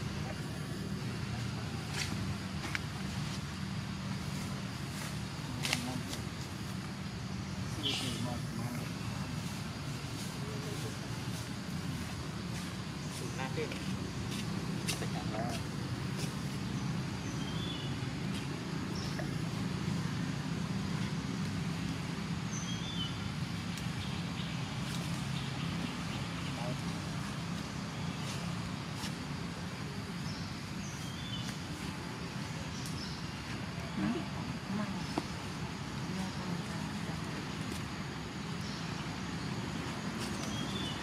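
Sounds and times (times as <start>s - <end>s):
low engine-like rumble: 0.0s - 41.0s.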